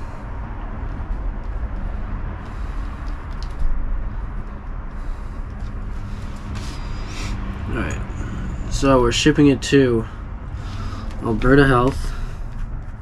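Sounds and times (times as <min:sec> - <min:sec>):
low rumble with hiss: 0:00.0 - 0:13.0.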